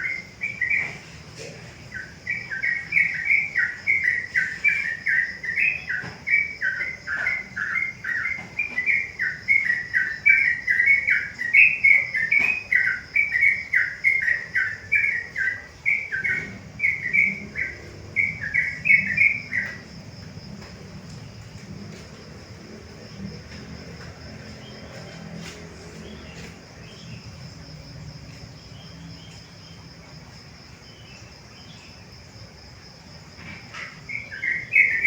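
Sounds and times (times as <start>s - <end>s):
bulbul singing: 0.0s - 29.9s, 33.3s - 35.0s
high insect drone: 0.0s - 35.0s.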